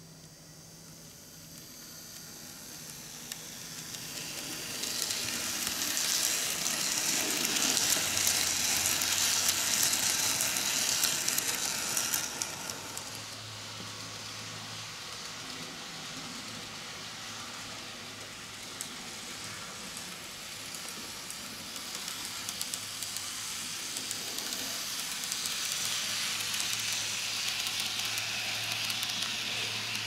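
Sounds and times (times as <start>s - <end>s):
model train wheels hissing: 0.0s - 30.0s
rapid clicks of wheels over rails: 0.8s - 30.0s.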